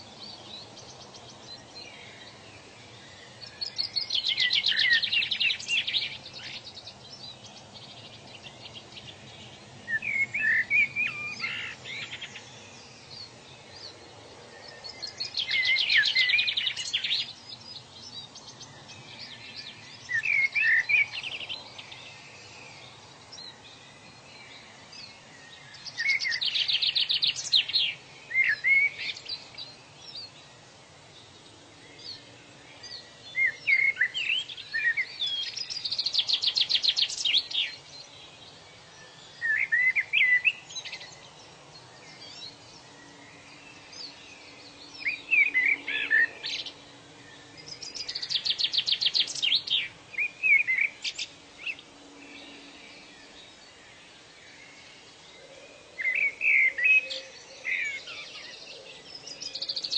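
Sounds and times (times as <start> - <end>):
faint background hiss: 0.0 - 59.9
songbirds chirping and trilling: 0.0 - 59.9.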